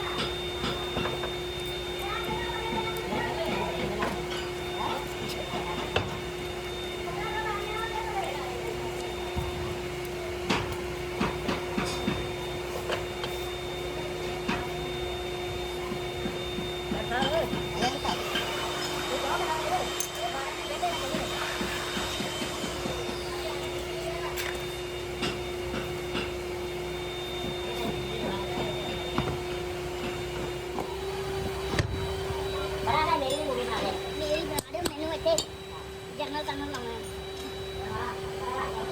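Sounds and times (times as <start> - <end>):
factory machinery humming: 0.0 - 38.9.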